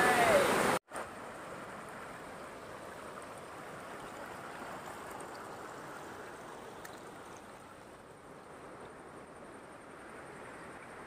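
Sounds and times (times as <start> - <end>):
stream water rippling over rocks: 0.0 - 11.0.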